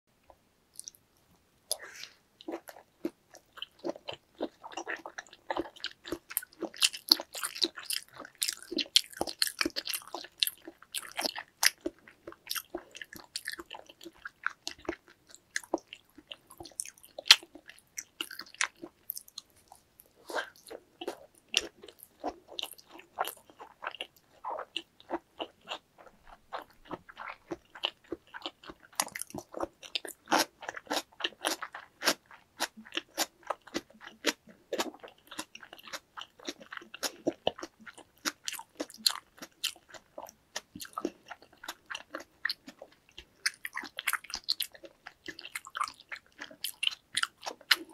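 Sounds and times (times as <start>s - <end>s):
person chewing sushi: 0.7s - 1.0s, 1.7s - 47.9s.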